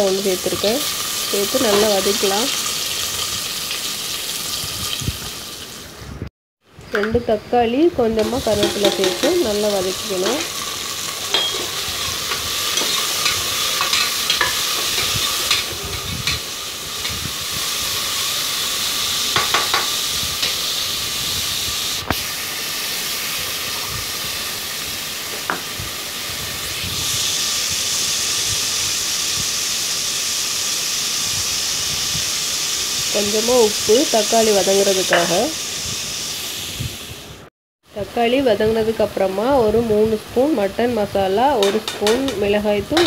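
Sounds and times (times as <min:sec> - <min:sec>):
vegetables sizzling in oil: 0:00.0 - 0:06.1, 0:06.9 - 0:43.0.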